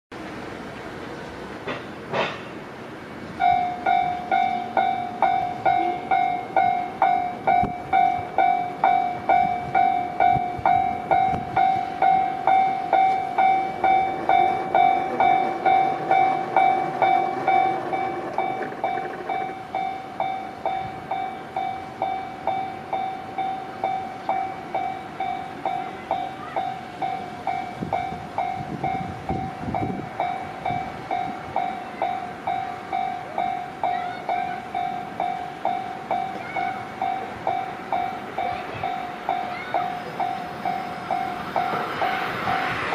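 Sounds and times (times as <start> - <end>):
level-crossing warning bell ringing: 3.4 - 42.9.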